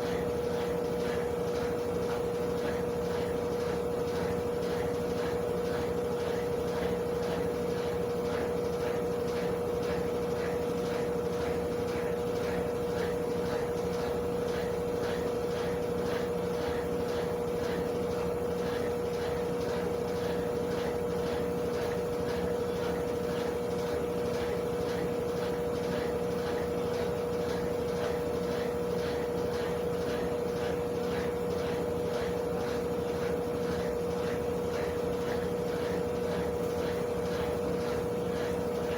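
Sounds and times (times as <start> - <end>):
regular swishing of washer: 0.0 - 38.9
washing machine motor hum: 0.0 - 38.9.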